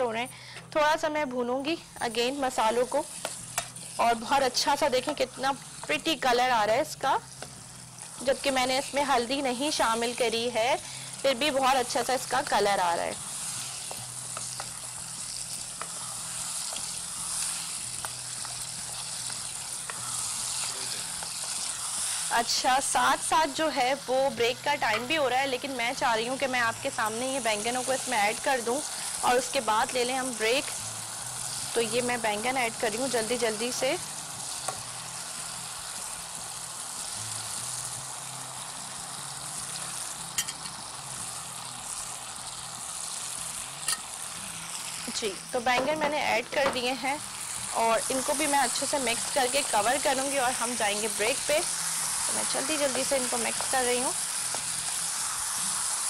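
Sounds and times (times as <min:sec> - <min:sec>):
potatoes sizzling in a pot: 0:00.0 - 0:56.0.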